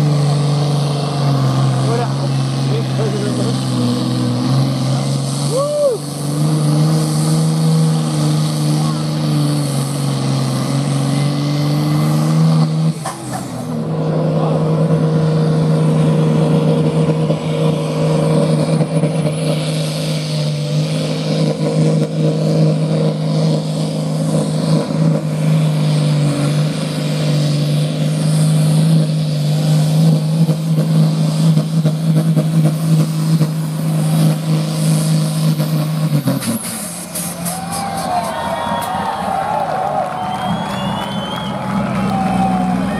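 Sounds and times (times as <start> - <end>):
vehicle engine at high revs: 0.0 - 42.9.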